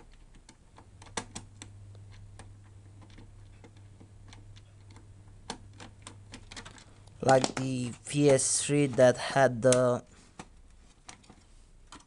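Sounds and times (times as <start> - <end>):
console parts clicking and tapping: 0.0 - 12.0
steady low hum: 0.0 - 12.0.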